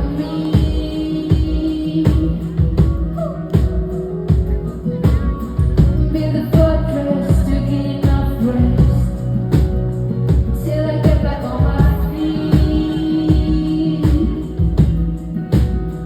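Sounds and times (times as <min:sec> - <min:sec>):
synth-pop band playing: 0:00.0 - 0:16.0
woman singing: 0:00.0 - 0:16.0.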